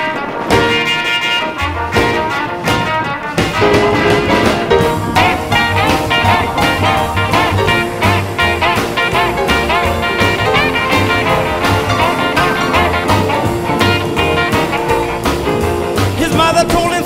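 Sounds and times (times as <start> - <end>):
upbeat background music: 0.5 - 17.0.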